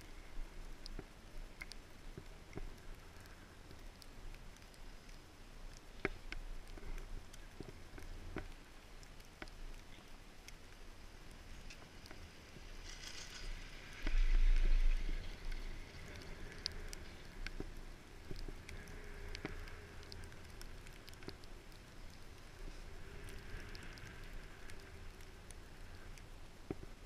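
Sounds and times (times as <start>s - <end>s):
clicks and creaks: 0.0s - 27.0s
steady background hiss: 0.0s - 27.0s.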